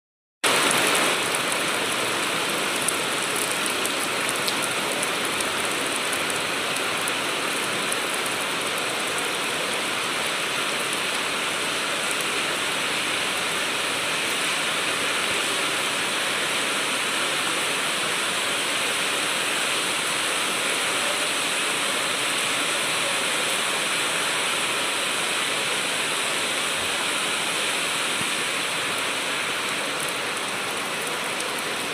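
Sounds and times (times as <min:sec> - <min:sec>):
steady rain falling: 0:00.4 - 0:31.9.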